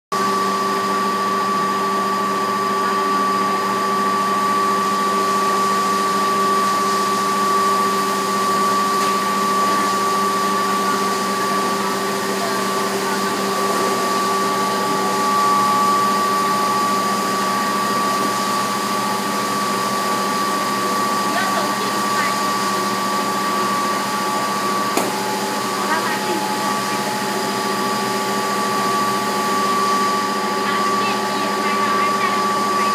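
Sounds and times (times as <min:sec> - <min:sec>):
granulating machine whirring whine: 0:00.2 - 0:32.9.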